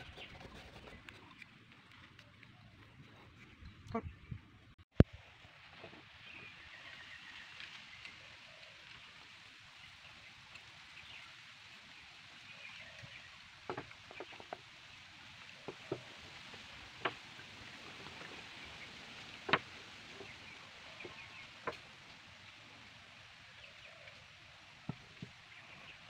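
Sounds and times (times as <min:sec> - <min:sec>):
faint outdoor background hiss: 0:05.0 - 0:26.0.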